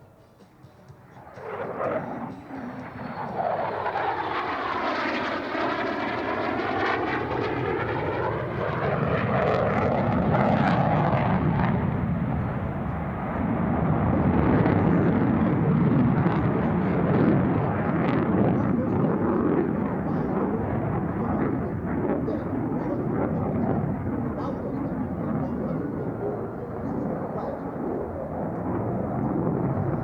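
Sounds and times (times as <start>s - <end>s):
jet flying past: 0.0s - 30.0s.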